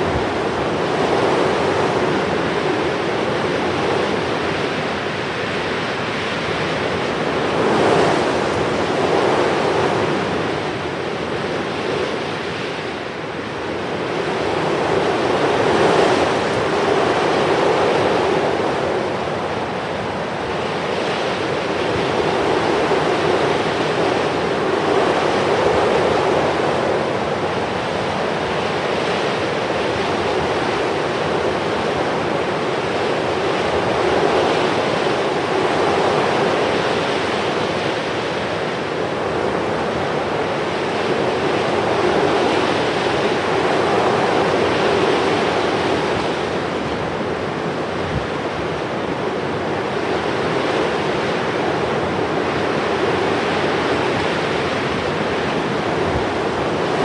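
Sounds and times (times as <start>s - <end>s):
sea surf washing in: 0.0s - 57.0s.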